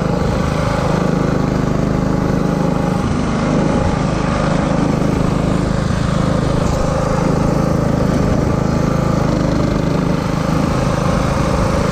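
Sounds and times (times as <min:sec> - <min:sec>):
lawn tractor engine droning: 0:00.0 - 0:11.9.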